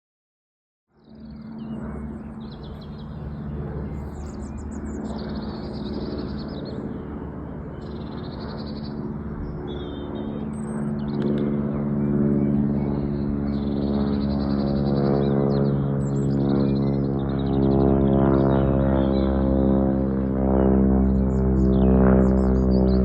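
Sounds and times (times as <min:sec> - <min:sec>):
piston aircraft engine drone: 0:00.9 - 0:23.0
birds chirping: 0:01.1 - 0:20.0, 0:20.6 - 0:23.0.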